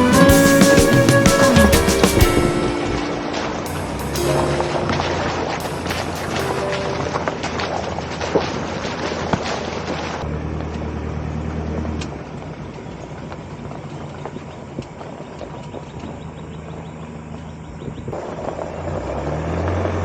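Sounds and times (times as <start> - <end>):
vehicle engine running: 0.0 - 9.2, 10.1 - 20.0.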